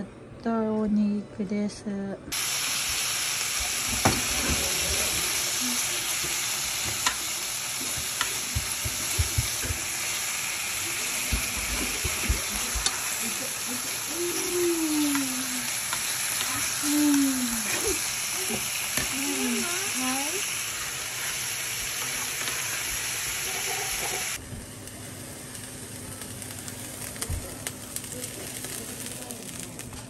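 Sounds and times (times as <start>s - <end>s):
meat sizzling in a frying pan: 2.3s - 30.0s.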